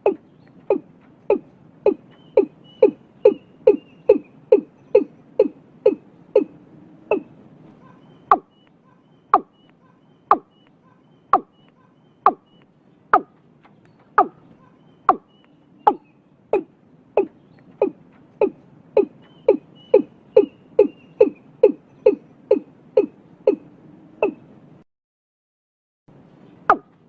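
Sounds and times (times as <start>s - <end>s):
bird calling falling notes: 0.0s - 24.5s.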